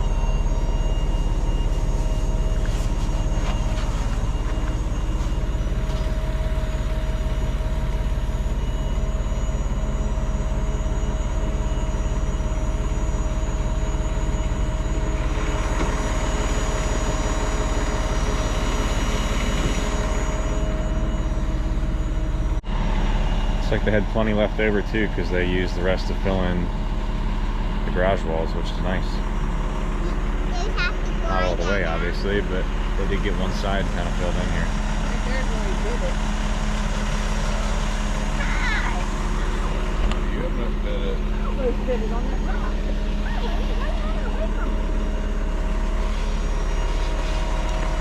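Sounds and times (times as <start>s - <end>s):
diesel engine droning: 0.0s - 48.0s.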